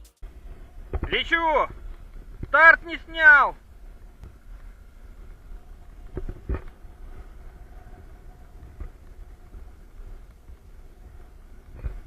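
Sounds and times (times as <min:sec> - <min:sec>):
faint steady hum: 0:00.2 - 0:12.0
low rumbling wind noise: 0:00.2 - 0:12.0.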